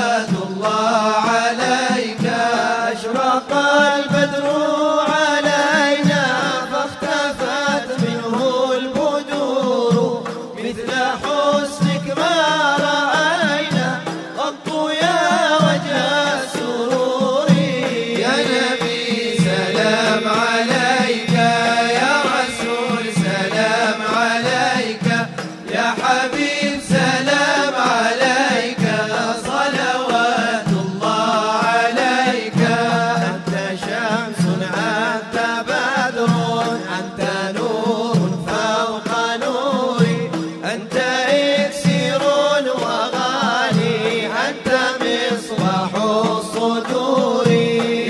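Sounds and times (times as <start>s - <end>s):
male ensemble singing a hymn: 0.0s - 48.0s.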